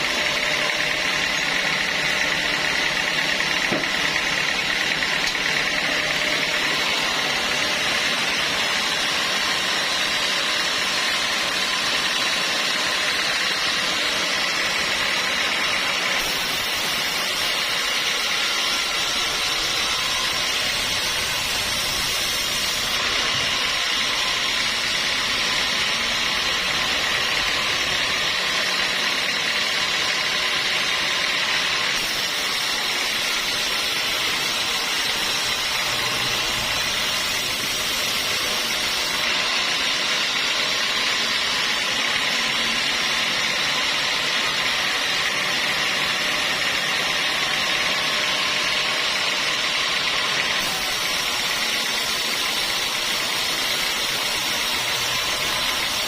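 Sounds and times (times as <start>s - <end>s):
sawmill saw running: 0.0s - 56.0s.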